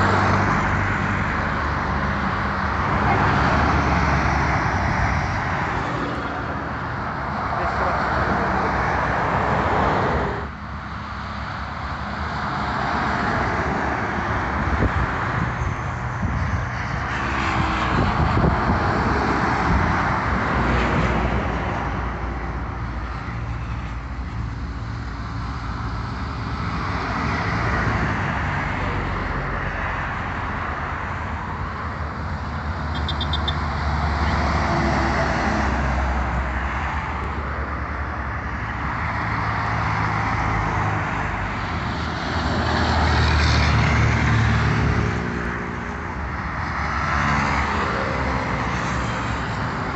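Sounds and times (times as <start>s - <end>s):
highway traffic passing: 0.0s - 49.9s.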